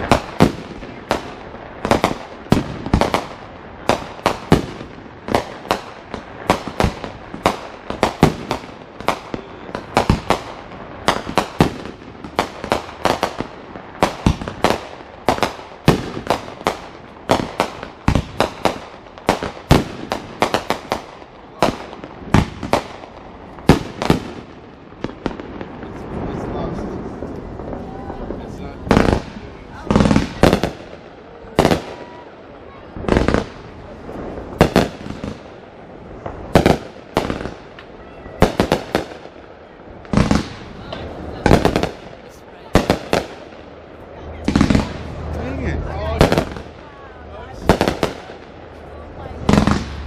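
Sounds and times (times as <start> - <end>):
fireworks bangs: 0.0 - 50.0.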